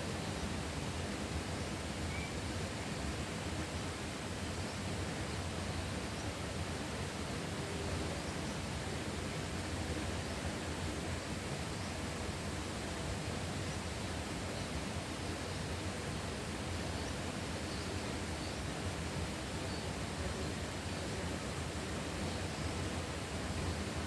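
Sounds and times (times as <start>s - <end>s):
rural outdoor rushing noise: 0.0s - 24.0s.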